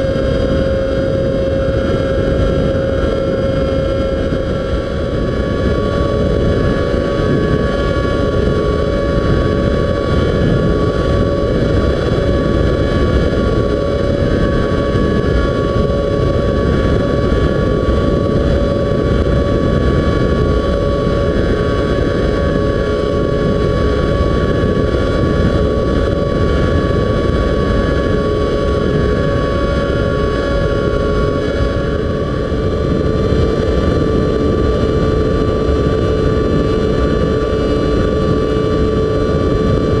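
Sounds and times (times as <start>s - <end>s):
model plane motor whining: 0.0s - 40.0s
wind rumble on microphone: 0.0s - 40.0s.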